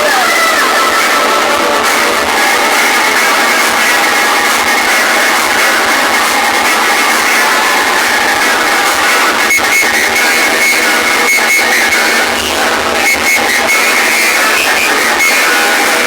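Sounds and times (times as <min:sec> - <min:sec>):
loud music from speakers: 0:00.0 - 0:16.0.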